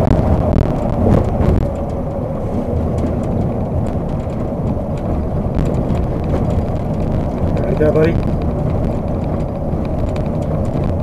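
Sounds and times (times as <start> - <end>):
engine and road rumble in cab: 0.0 - 11.0.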